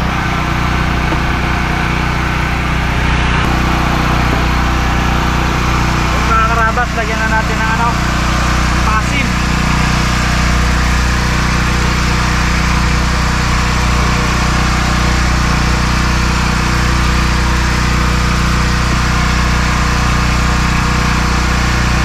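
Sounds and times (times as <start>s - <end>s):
generator humming: 0.0s - 22.0s.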